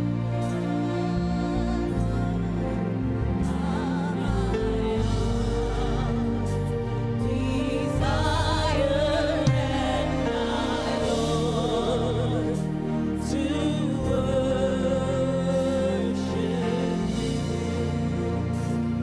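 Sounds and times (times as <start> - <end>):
keyboard chords: 0.0 - 19.0.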